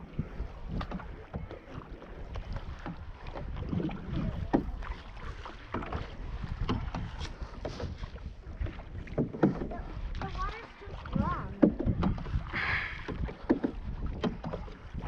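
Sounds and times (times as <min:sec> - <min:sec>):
paddle knocking against hull: 0:00.0 - 0:15.0
paddle splashes: 0:00.0 - 0:15.0
wind rumbling on microphone: 0:00.0 - 0:15.0.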